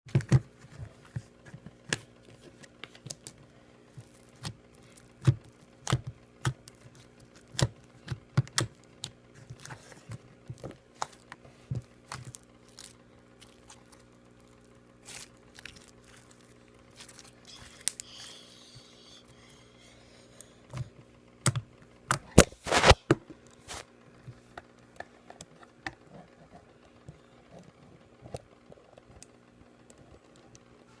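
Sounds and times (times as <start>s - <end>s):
faint steady hum: 0.1s - 31.0s.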